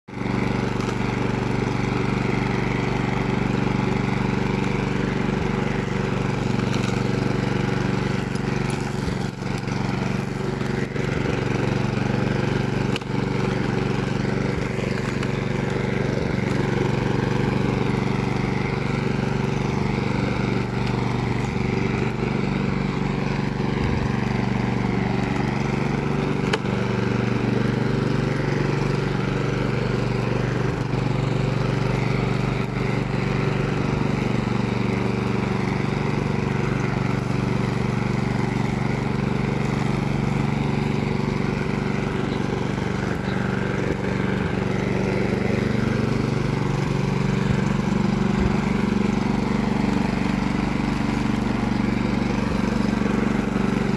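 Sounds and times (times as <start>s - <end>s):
lawn mower engine running: 0.1s - 53.9s.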